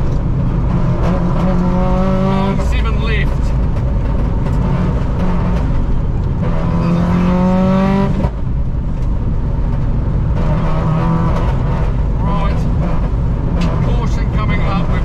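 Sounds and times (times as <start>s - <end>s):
car engine revving: 0.0s - 15.0s
tyre and road rumble: 0.0s - 15.0s.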